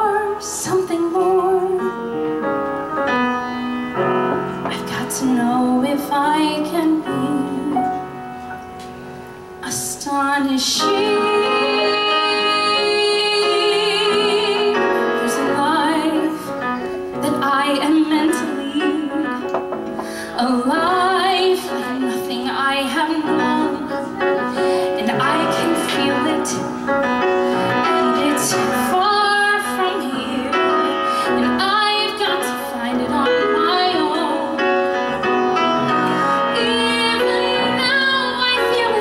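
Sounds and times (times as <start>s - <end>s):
woman singing a ballad: 0.0s - 2.4s, 4.6s - 8.4s, 9.6s - 35.1s, 36.1s - 39.0s
piano: 0.0s - 39.0s.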